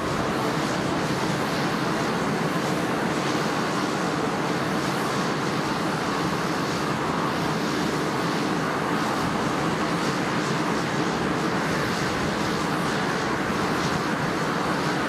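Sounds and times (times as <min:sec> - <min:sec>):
turboprop engines running: 0:00.0 - 0:15.0.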